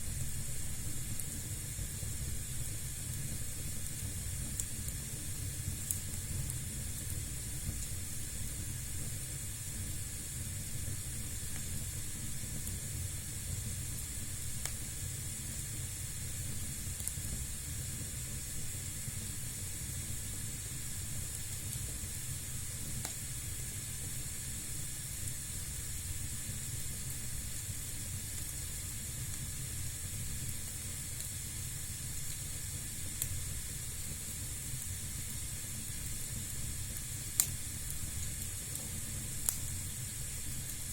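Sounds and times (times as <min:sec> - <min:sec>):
fire burning in fireplace: 0:00.0 - 0:40.9
fire crackles: 0:00.0 - 0:40.9.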